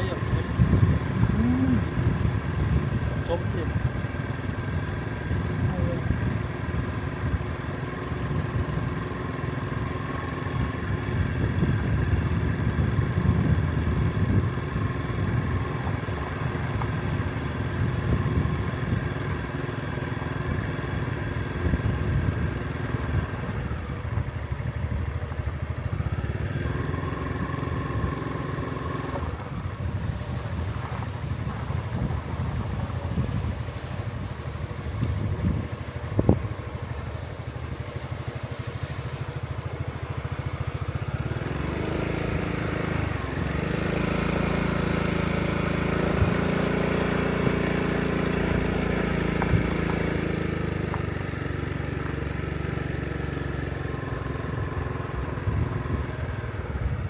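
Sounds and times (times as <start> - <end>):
motor engine rumbling: 0.0 - 57.0.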